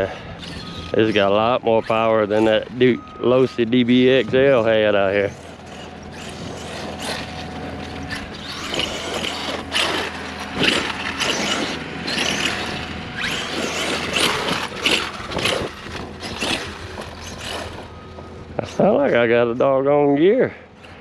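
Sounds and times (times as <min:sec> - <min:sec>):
toy truck motor whirring: 0:00.0 - 0:19.2
gears clicking and clattering: 0:00.4 - 0:18.9.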